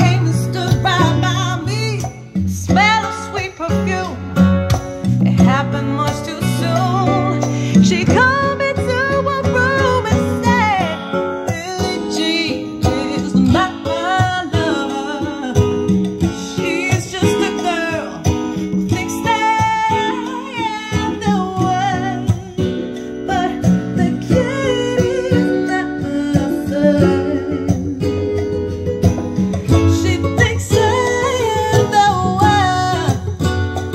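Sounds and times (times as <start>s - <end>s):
song with guitar and singing: 0.0s - 33.9s.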